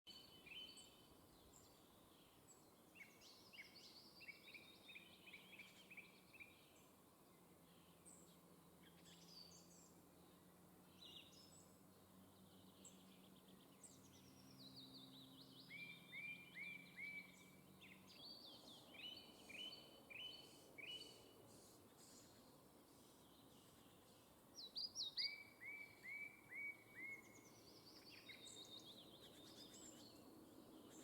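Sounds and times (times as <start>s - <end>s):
songbirds singing: 0.1s - 31.0s.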